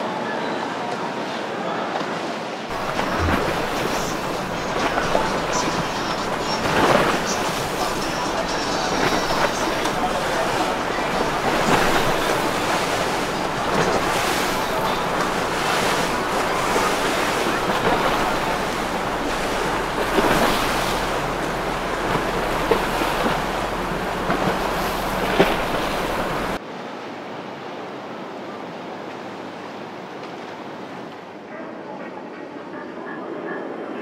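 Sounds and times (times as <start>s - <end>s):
waves rushing: 0.0s - 32.4s.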